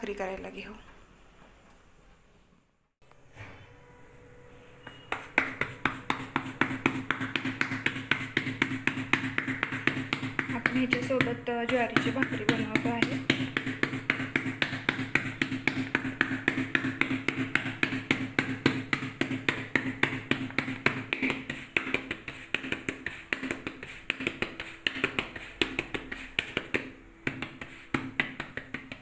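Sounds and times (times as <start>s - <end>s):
palm patting dough on steel plate: 4.8s - 29.0s.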